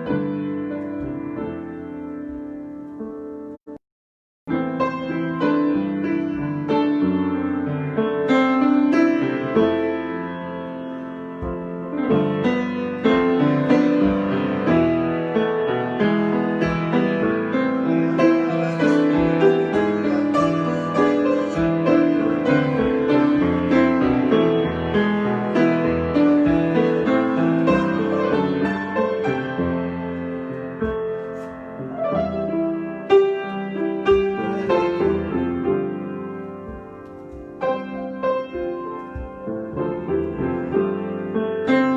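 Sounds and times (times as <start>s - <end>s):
solo piano: 0.0s - 3.8s, 4.5s - 41.9s.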